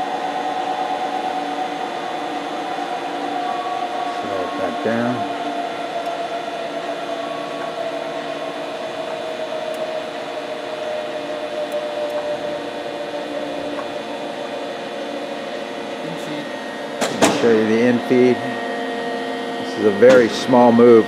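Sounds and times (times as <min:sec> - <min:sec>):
grinder machine hum with whine: 0:00.0 - 0:21.0.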